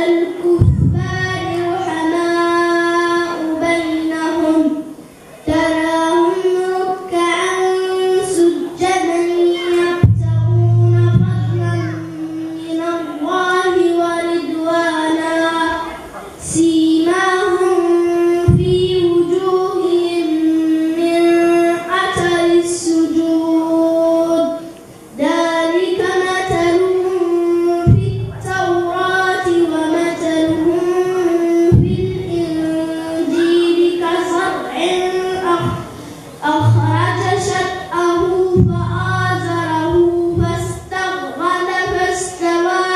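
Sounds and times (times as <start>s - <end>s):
child reciting melodically: 0.0s - 42.9s.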